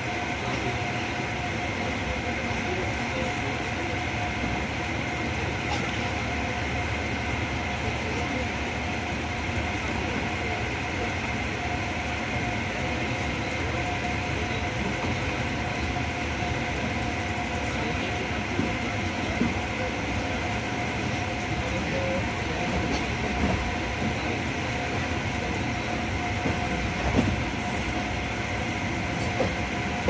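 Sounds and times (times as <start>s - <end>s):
train rumble: 0.0s - 30.0s.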